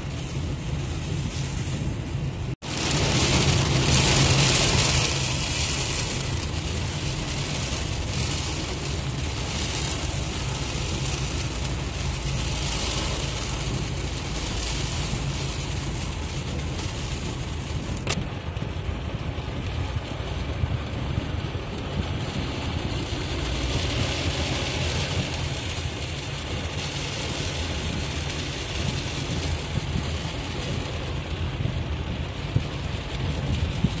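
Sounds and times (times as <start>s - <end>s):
heavy rain on car windscreen: 0.0s - 34.0s
tyre and engine road rumble: 0.0s - 34.0s.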